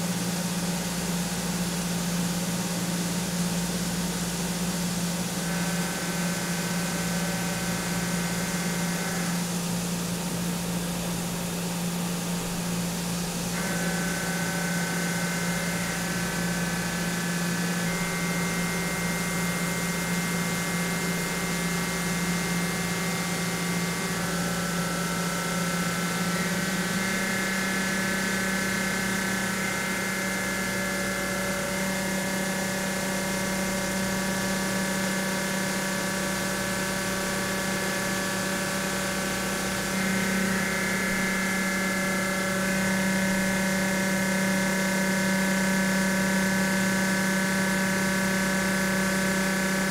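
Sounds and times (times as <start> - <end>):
milling machine spindle hum: 0.0 - 49.9.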